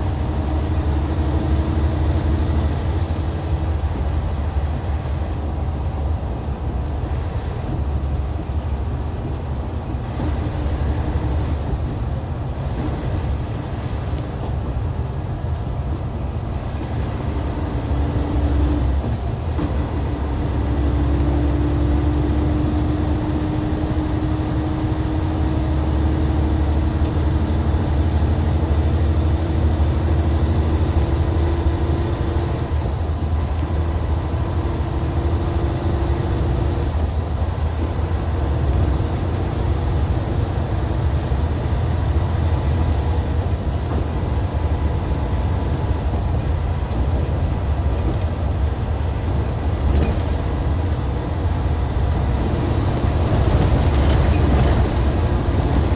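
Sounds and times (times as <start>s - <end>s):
diesel coach engine rumbling: 0.0s - 55.9s.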